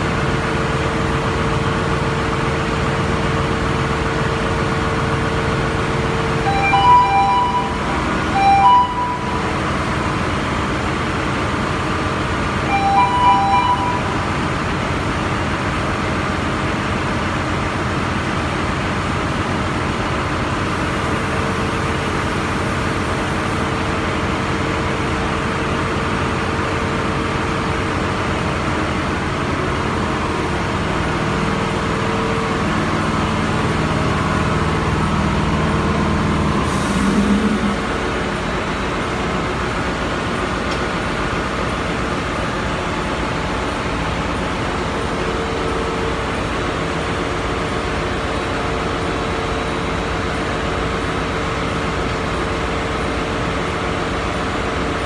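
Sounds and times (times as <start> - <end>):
deeper machinery drone: 0.0 - 54.9
engine-room machinery drone: 0.0 - 55.0.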